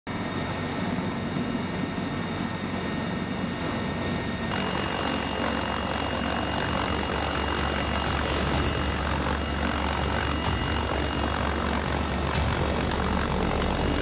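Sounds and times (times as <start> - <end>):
helicopter rotor and engine noise: 0.1 - 14.0
high turbine whine: 0.1 - 14.0.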